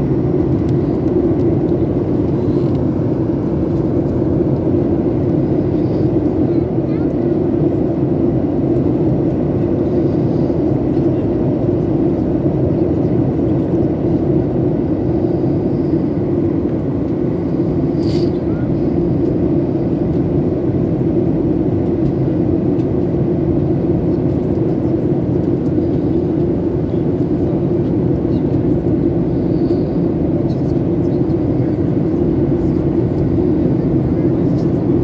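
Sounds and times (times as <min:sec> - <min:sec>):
jet airliner cabin noise: 0:00.0 - 0:35.0.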